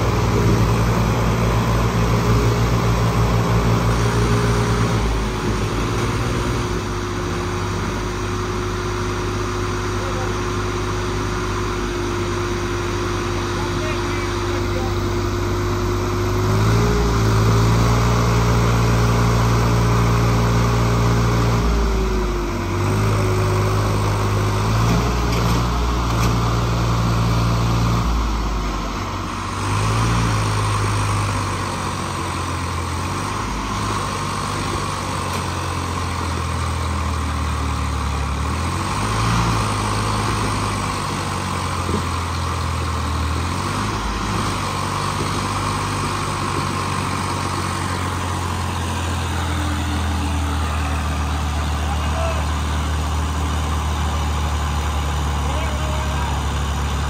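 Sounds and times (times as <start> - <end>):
diesel tractor engines running hard: 0.0 - 57.0.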